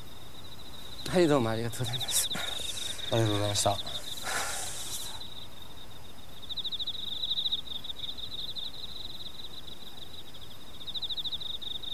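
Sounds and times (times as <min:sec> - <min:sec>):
cricket chirping: 0:00.0 - 0:11.9
faint steady hiss: 0:00.0 - 0:11.9.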